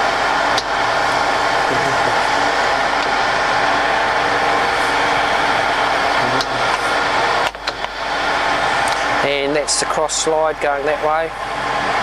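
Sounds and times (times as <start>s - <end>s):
lathe running: 0.0s - 12.0s.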